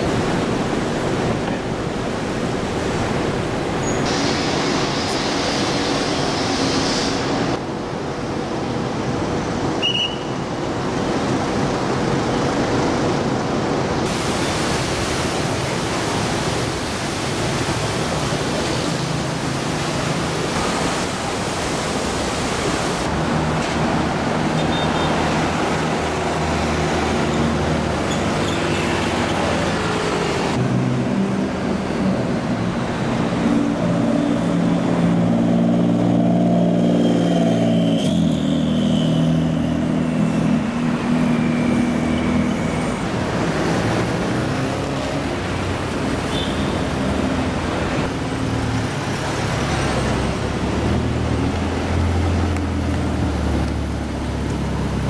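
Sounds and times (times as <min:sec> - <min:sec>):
cars passing on street: 0:00.0 - 0:55.0.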